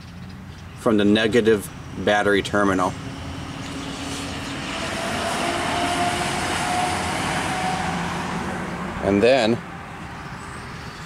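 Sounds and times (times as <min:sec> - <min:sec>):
engine hum: 0:00.0 - 0:11.0
vehicle road noise: 0:00.0 - 0:11.0.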